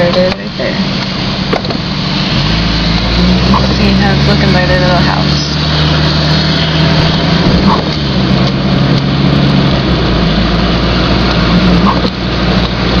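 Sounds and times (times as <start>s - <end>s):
car engine drone: 0.0s - 13.0s
tyre and road noise: 0.0s - 13.0s.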